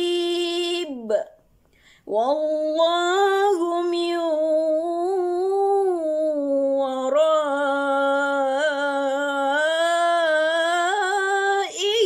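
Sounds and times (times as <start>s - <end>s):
woman chanting recitation: 2.1s - 12.0s.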